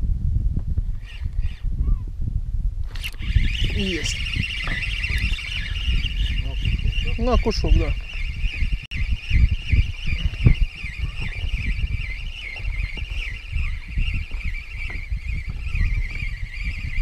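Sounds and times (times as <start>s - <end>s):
wind buffeting microphone: 0.0s - 17.0s
fishing reel cranking: 0.9s - 1.7s, 2.9s - 17.0s
high wavering whine: 0.9s - 2.0s, 2.8s - 17.0s.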